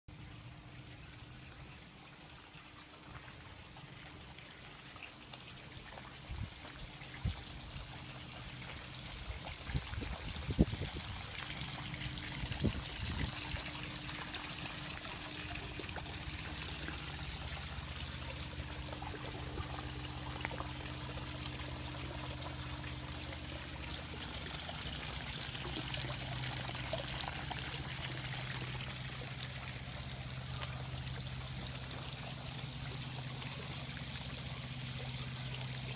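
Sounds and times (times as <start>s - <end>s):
water trickling and splashing: 0.1s - 35.9s.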